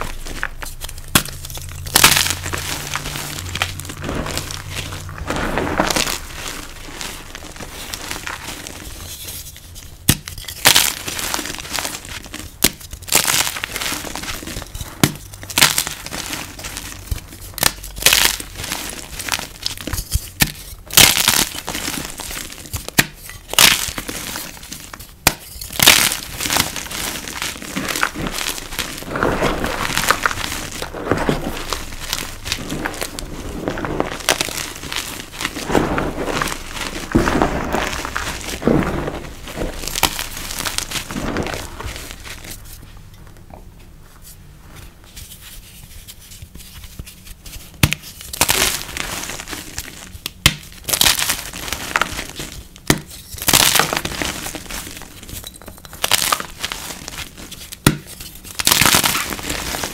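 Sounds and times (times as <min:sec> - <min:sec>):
chalk blocks cracking: 0:00.0 - 0:42.8, 0:46.4 - 0:59.9
gritty crumbling chalk: 0:00.0 - 0:43.4, 0:45.1 - 0:59.9.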